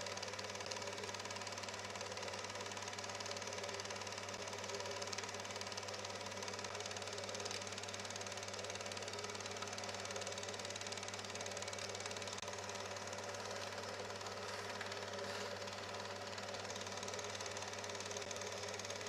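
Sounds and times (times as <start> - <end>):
film projector mechanical clatter: 0.0 - 19.0.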